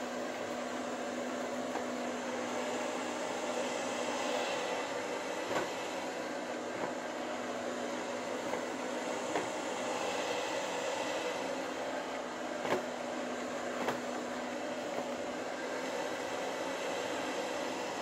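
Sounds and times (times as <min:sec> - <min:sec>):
robot vacuum cleaner humming: 0:00.0 - 0:18.0.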